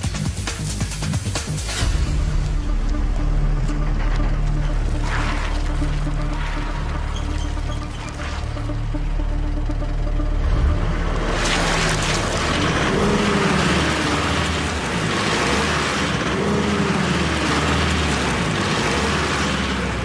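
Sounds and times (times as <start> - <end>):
vehicle engine revving: 1.6 - 20.0.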